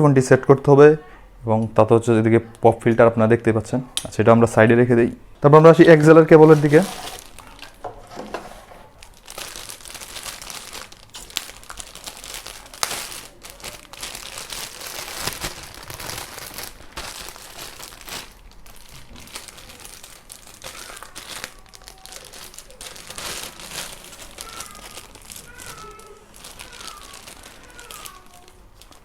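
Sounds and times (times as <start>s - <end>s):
packaging crinkling and rustling: 5.6s - 29.0s.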